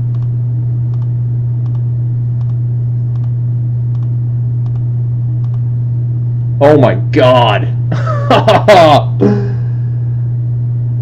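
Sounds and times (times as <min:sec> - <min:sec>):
loud steady low hum: 0:00.0 - 0:11.0.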